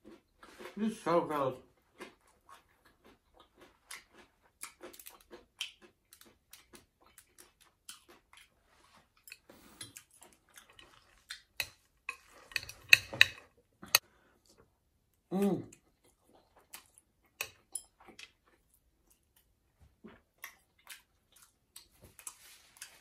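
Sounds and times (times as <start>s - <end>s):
person chewing noodles: 0.0s - 1.0s, 1.6s - 23.0s.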